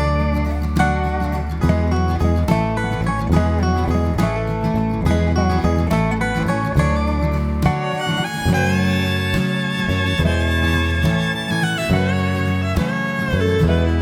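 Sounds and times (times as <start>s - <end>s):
fiddle and guitar music: 0.0s - 14.0s.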